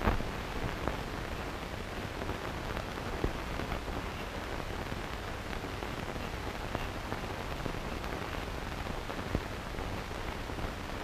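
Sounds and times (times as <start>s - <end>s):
film soundtrack hiss and crackle: 0.0s - 11.0s.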